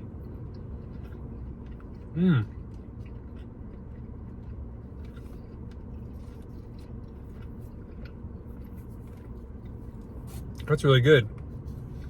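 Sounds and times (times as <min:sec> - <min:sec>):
person chewing: 0:00.0 - 0:10.6
low background hum: 0:00.0 - 0:12.0.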